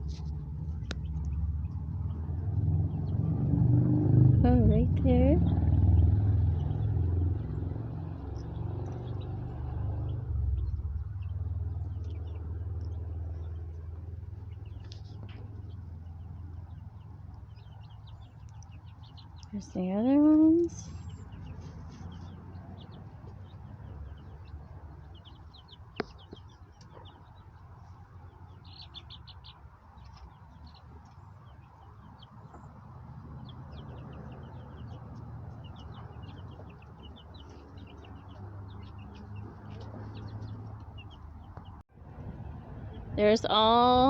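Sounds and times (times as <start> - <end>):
chickens clucking and chirping: 0.0 - 41.8
low rumble: 0.0 - 44.0.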